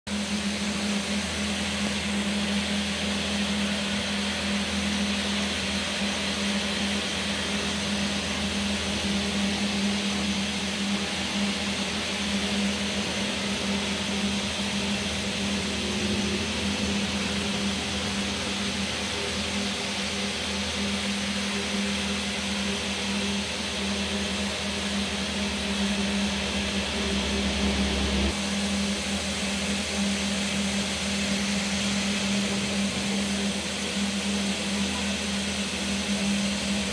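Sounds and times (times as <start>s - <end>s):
machine hum and whirr: 0.1s - 36.9s.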